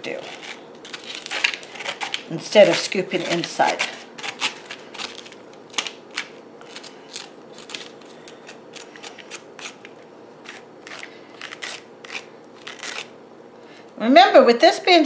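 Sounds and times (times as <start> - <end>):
metal spoon scraping squash: 0.0 - 13.2.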